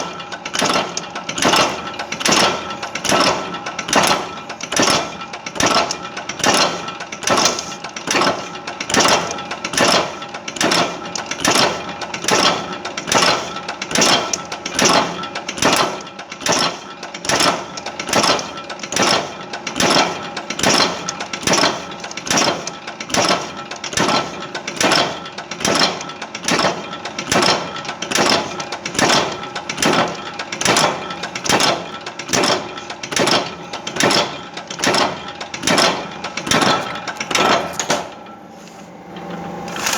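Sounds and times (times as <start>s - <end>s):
machine clattering rhythmically: 0.0s - 38.2s.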